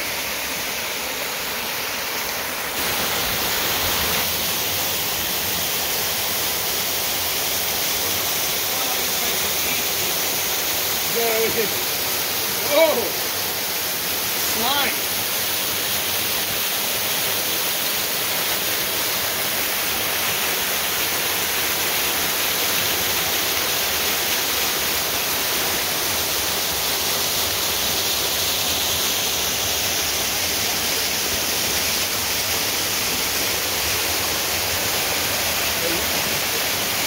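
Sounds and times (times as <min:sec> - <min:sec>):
waterfall splashing into pool: 0:00.0 - 0:37.0.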